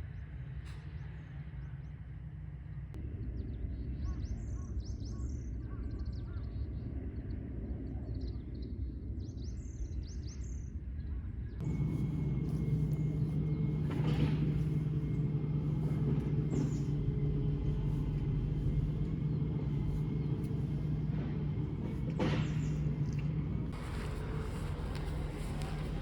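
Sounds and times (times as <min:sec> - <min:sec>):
steady low hum: 0:00.0 - 0:26.0
birds twittering: 0:00.1 - 0:26.0
steady low rumble: 0:00.1 - 0:26.0.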